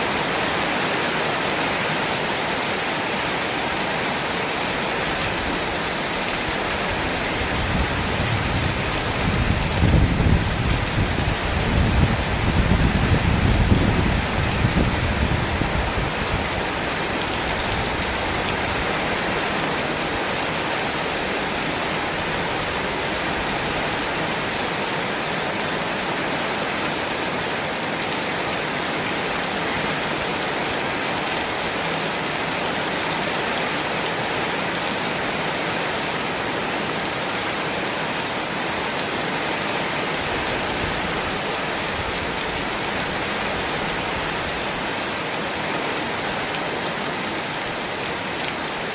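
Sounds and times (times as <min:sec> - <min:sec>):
steady rain pouring: 0:00.0 - 0:48.9.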